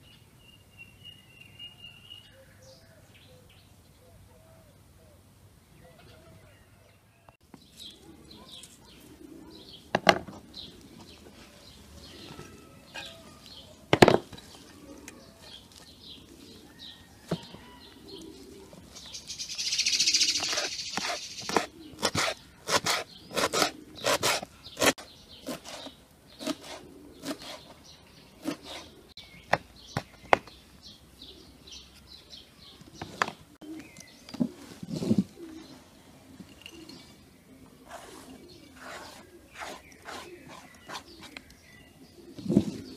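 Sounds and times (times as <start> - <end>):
small birds chirping: 5.7 - 42.9.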